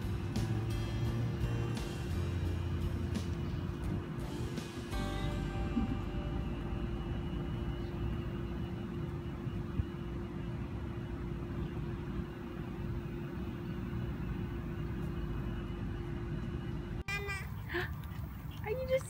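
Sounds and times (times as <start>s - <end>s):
constant low hum: 0.0s - 19.0s
outdoor background rumble: 0.0s - 19.0s.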